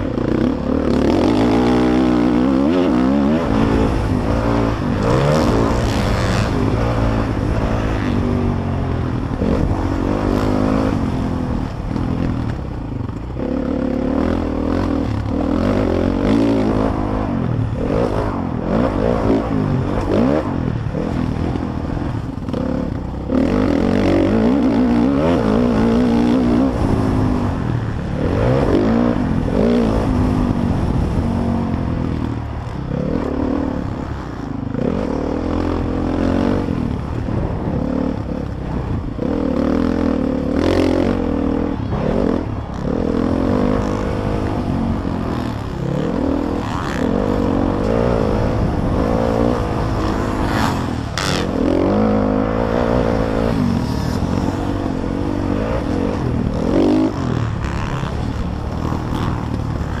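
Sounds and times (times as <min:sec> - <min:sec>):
motocross engine revving: 0:00.0 - 0:12.3, 0:13.4 - 0:31.7, 0:32.9 - 1:00.0.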